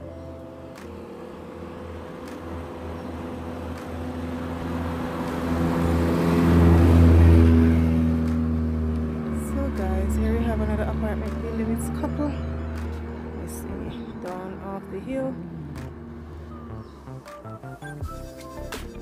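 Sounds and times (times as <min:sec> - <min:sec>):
car passing by: 0:00.7 - 0:18.0.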